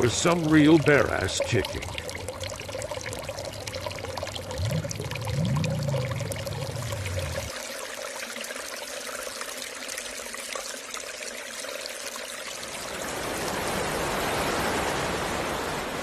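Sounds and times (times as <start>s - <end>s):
running water: 0.0s - 15.6s.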